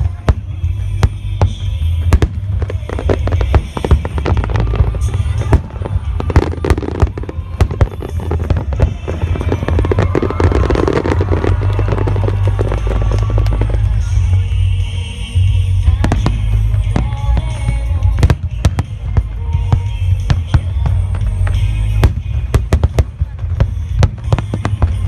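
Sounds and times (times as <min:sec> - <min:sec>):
fireworks bangs and crackles: 0:00.0 - 0:25.0
heavy low rumble: 0:00.0 - 0:25.0
music playing: 0:00.0 - 0:25.0.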